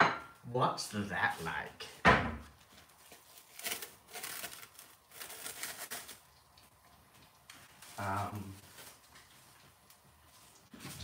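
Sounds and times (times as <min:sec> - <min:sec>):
soft rustling handling noises: 0:00.9 - 0:11.0.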